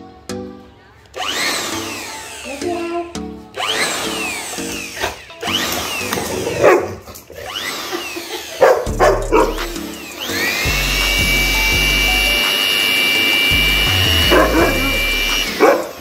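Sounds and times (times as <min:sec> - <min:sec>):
electric air blower whining: 0:01.2 - 0:02.9, 0:03.6 - 0:06.6, 0:07.3 - 0:16.0.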